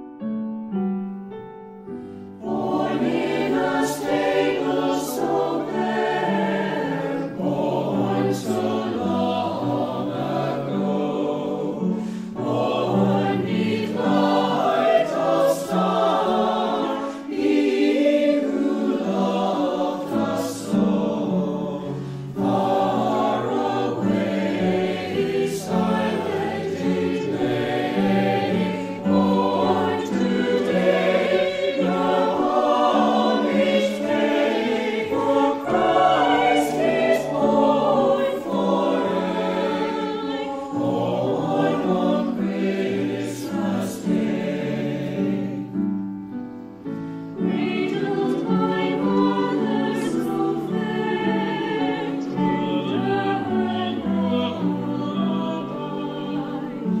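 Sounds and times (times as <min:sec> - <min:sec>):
choir singing a carol: 0:02.1 - 0:57.0.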